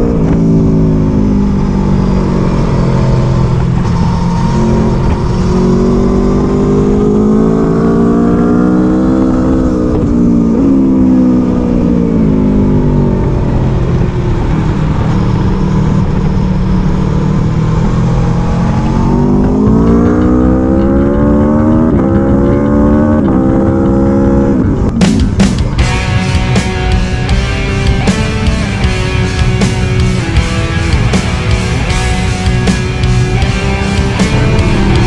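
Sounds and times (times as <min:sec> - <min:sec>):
motorcycle engine revving: 0:00.0 - 0:35.0
road noise: 0:00.0 - 0:35.0.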